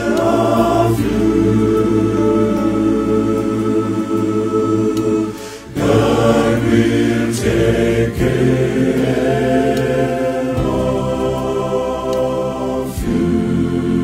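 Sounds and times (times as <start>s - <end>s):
male choir singing in harmony: 0.0s - 14.0s.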